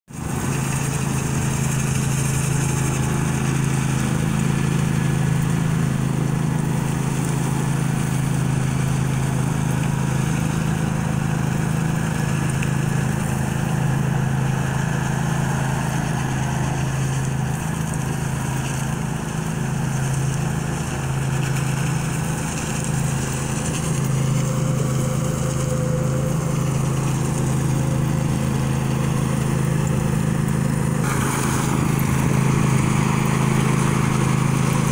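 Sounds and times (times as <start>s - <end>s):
power trowel engine running: 0.1s - 34.9s.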